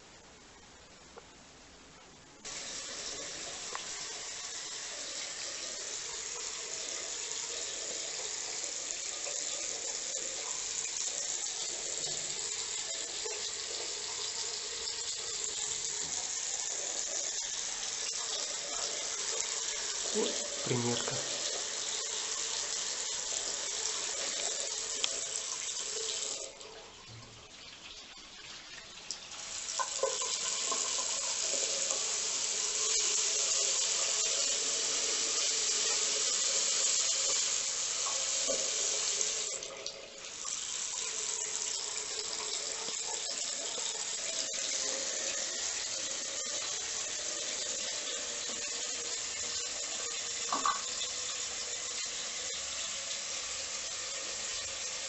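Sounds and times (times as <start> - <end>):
water running from tap: 2.4 - 55.0.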